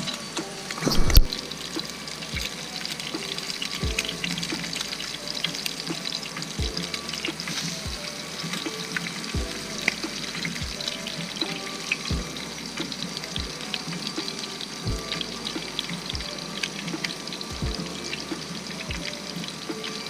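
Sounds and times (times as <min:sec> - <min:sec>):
background music with soft beat: 0:00.0 - 0:20.0
fish sizzling in a pan: 0:00.0 - 0:20.0.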